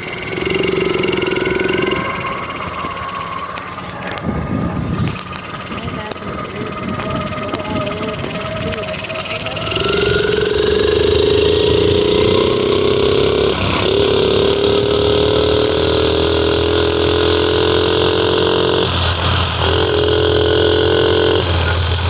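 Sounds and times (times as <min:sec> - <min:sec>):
small motorbike engine accelerating: 0:00.0 - 0:22.0.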